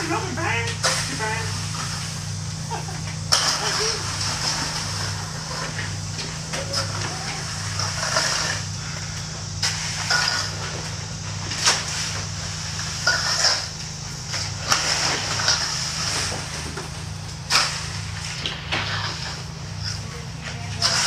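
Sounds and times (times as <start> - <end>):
steady low hum: 0.0 - 21.0
rake scraping through pebbles: 3.2 - 16.8, 17.4 - 21.0.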